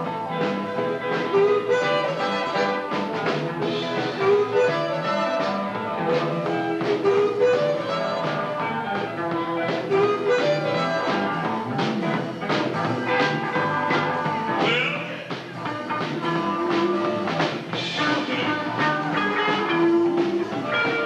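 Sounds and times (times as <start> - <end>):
bass guitar: 0.0 - 21.0
electric guitar: 0.0 - 21.0
keyboard: 0.0 - 21.0
steady drum beat: 0.0 - 21.0.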